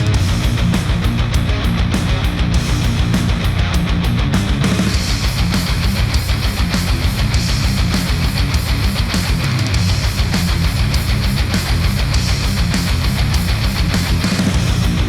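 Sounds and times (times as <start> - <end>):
fast drumbeat: 0.0 - 15.0
heavy rock music: 0.0 - 15.0.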